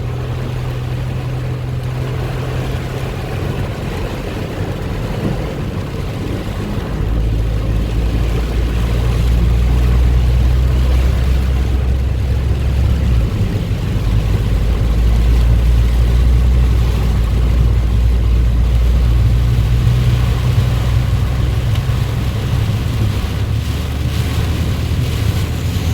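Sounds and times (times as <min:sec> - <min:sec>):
traffic and water rushing: 0:00.0 - 0:25.9
vehicle engines rumbling: 0:00.0 - 0:25.9.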